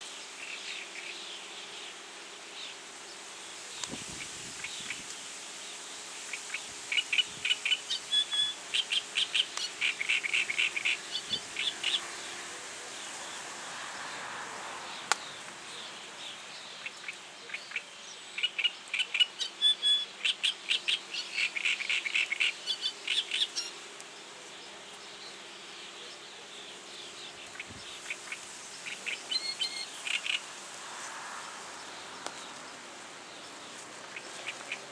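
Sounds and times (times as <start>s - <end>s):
reed warbler chattering song: 0.0s - 12.1s, 14.9s - 30.8s, 31.4s - 34.9s.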